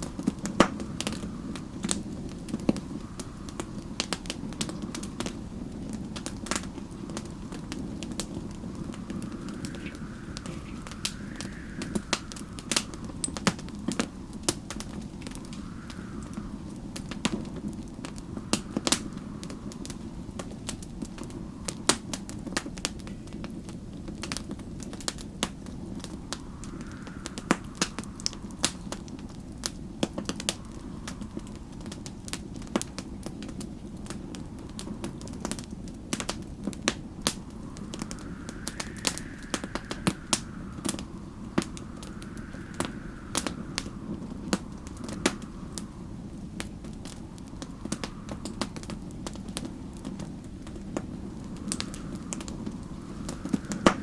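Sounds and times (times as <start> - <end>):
wind howling: 0.0 - 54.0
wood fire crackling and popping: 0.0 - 54.0.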